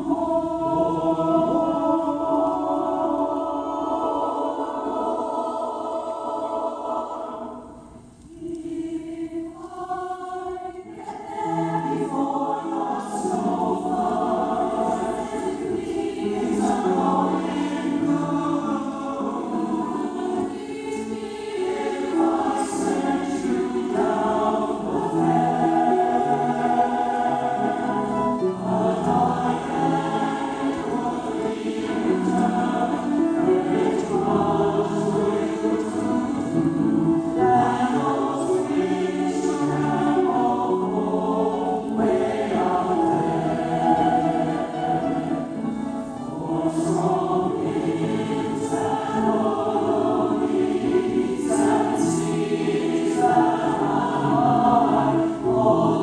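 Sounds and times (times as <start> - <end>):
choir singing in parts: 0.0 - 56.0.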